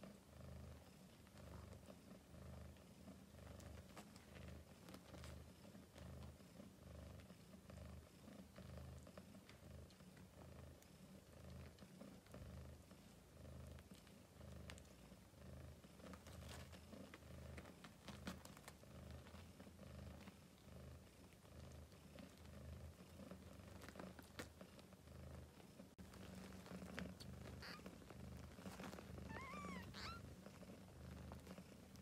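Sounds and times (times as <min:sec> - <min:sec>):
cat purring: 0:00.0 - 0:32.0
faint clicks and rustles: 0:02.6 - 0:32.0.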